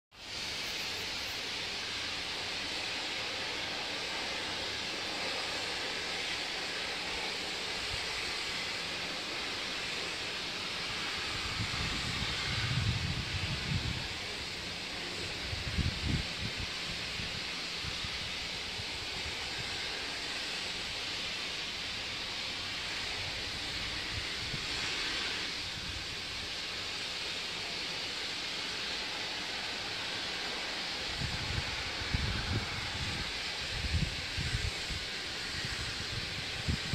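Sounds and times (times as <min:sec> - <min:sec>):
sandblasting nozzle hissing: 0:00.2 - 0:36.9.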